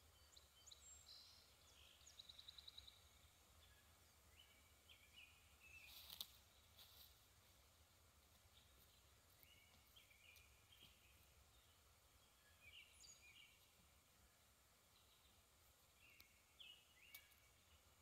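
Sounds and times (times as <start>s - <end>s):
faint bird chirps: 0.0s - 7.2s, 8.4s - 18.0s.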